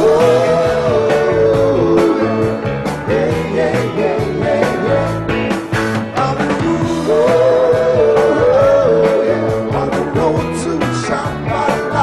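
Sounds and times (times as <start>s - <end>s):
man singing: 0.0s - 5.2s, 6.1s - 12.0s
rock band playing: 0.0s - 12.0s.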